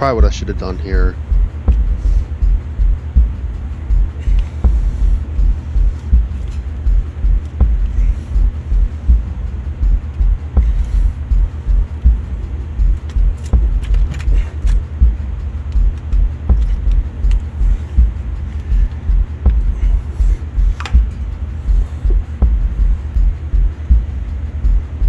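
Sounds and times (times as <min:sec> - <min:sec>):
pulsing low rumble: 0:00.0 - 0:25.0.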